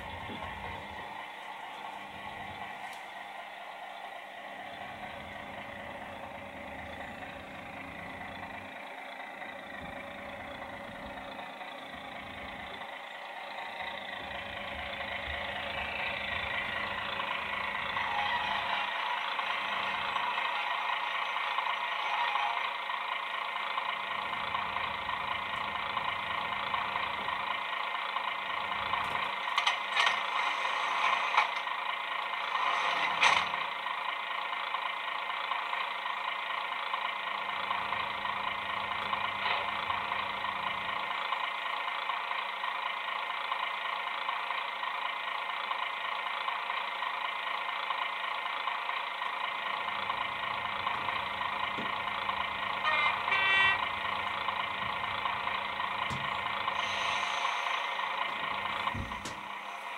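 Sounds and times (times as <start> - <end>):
diesel engine sound through small speaker: 0.0 - 59.9.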